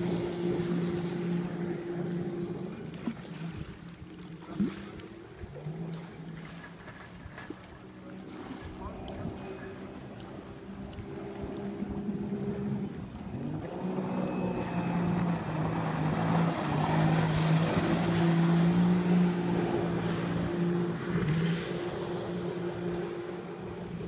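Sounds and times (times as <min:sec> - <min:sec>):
jet ski engine passing: 0:00.0 - 0:24.0.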